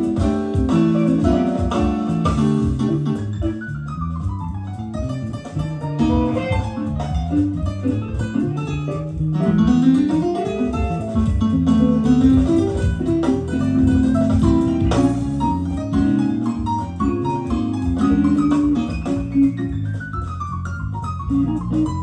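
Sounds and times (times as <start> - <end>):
guitar-led music with bass: 0.0 - 22.0.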